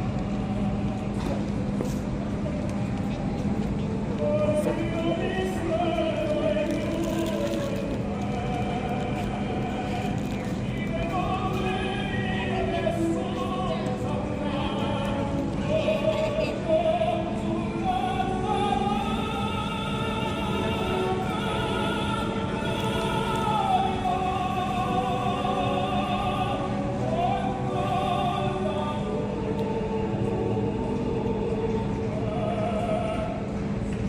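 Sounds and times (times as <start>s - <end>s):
choir: 3.9s - 34.0s
operatic voice singing with vibrato: 3.9s - 34.0s.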